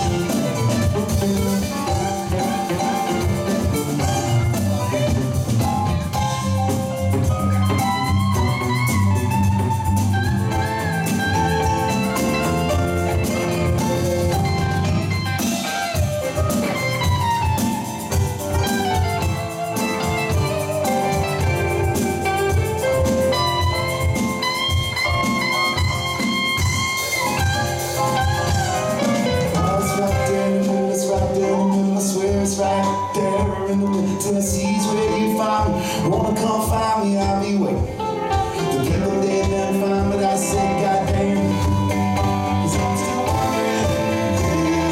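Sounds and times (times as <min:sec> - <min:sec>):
electric bass: 0:00.0 - 0:31.6, 0:35.7 - 0:44.9
drum kit: 0:00.0 - 0:44.9
electric guitar lead: 0:00.0 - 0:44.9.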